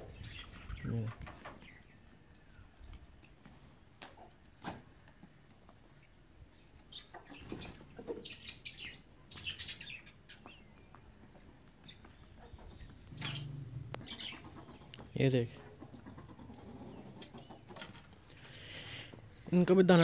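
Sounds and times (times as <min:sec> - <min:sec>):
chickens chirping and clucking: 0:00.0 - 0:20.0.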